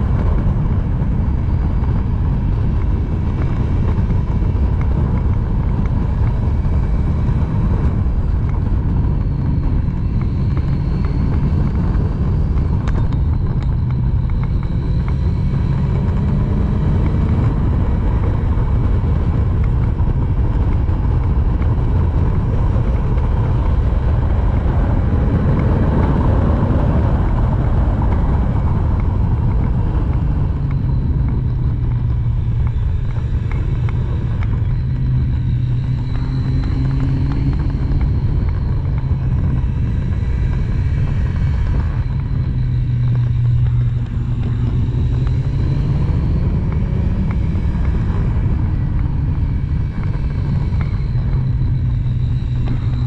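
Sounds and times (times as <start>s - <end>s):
heavy wind noise: 0.0s - 53.0s
motorcycle engine running hard: 0.0s - 53.0s.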